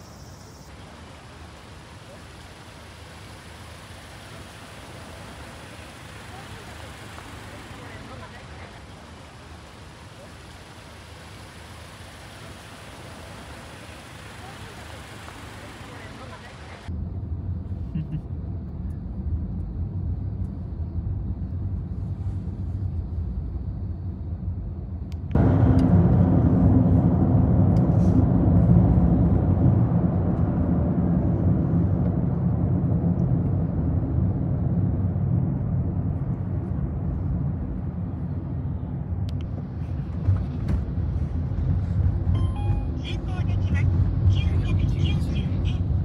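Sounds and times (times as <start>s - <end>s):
car tyre and engine rumble: 0.0s - 46.0s.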